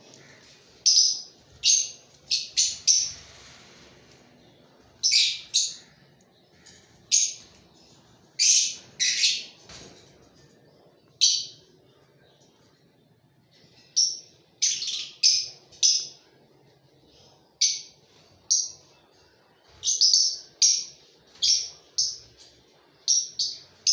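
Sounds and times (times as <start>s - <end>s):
lovebirds chirping: 0.0s - 3.5s, 4.1s - 9.7s, 10.4s - 23.9s.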